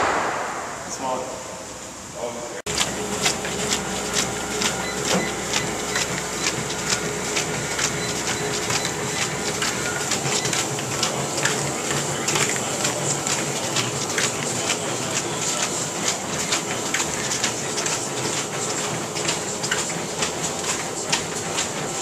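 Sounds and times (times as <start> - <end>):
running footsteps on treadmill: 2.7 - 22.0
treadmill motor whine: 2.7 - 22.0.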